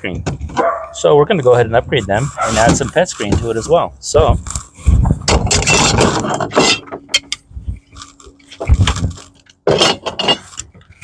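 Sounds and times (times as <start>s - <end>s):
scraping and rustling: 1.4s - 11.0s.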